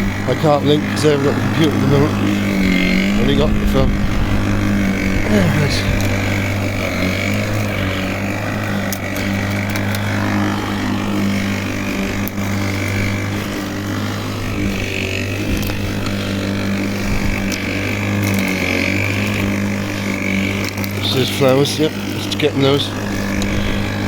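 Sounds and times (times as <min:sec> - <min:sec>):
lawnmower cutting grass: 0:00.0 - 0:24.0.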